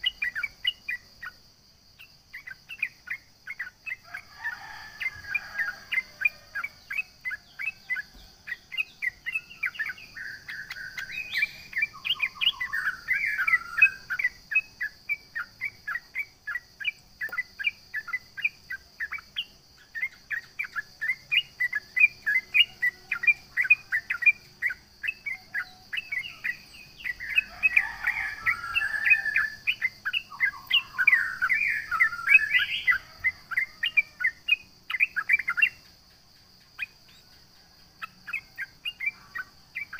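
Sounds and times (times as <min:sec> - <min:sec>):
bulbul singing fast chirps: 0:00.0 - 0:04.3, 0:05.0 - 0:39.9.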